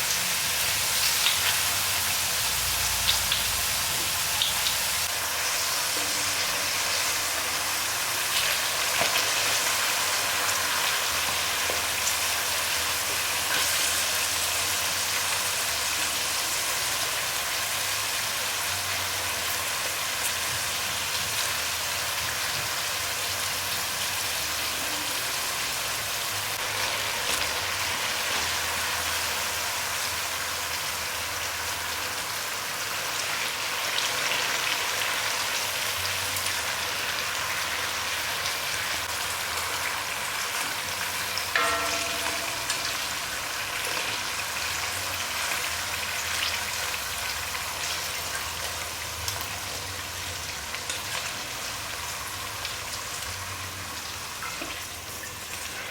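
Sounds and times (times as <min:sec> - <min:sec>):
slices sizzling in hot oil: 0:00.0 - 0:55.9.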